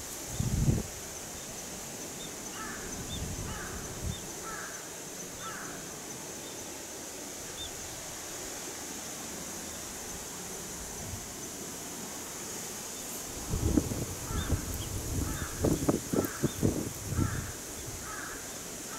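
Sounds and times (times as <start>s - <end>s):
outdoor hiss: 0.0s - 18.9s.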